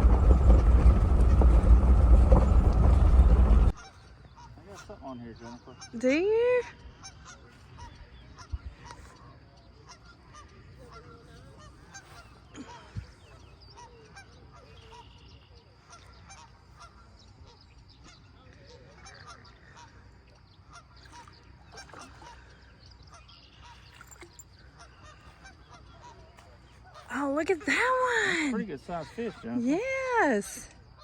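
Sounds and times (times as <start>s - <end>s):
geese honking faintly: 0.0s - 31.0s.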